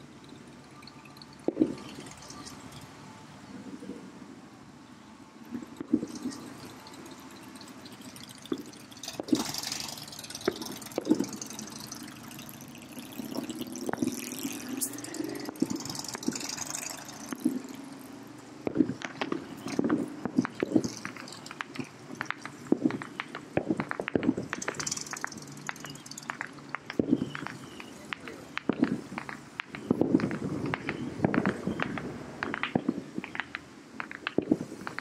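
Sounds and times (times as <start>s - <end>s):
distant fireworks bursting: 0.0s - 35.0s
steady background rumble: 0.0s - 35.0s.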